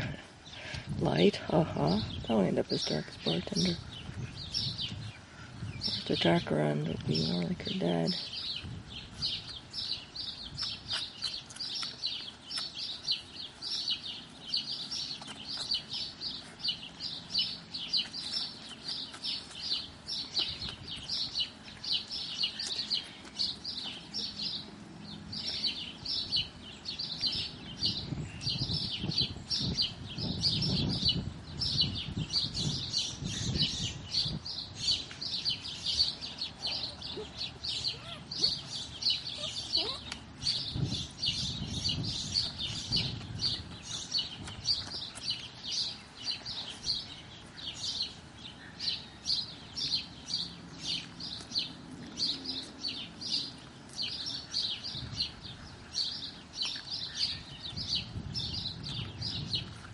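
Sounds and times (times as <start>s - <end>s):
small bird chirping: 2.1s - 59.9s.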